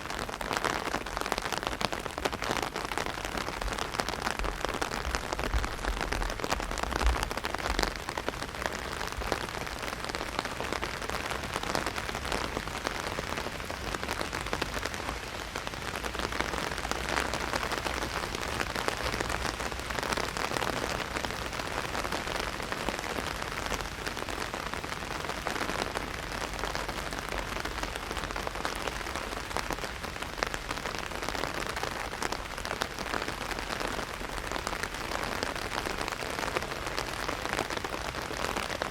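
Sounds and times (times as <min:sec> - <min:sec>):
heavy rain on umbrella: 0:00.0 - 0:38.9.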